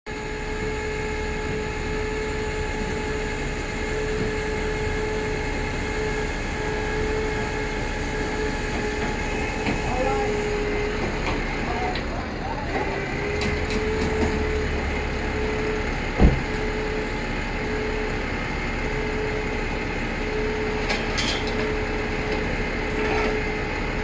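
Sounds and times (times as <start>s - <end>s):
hydraulic whine: 0.1s - 24.0s
tow truck winch droning: 0.1s - 24.0s.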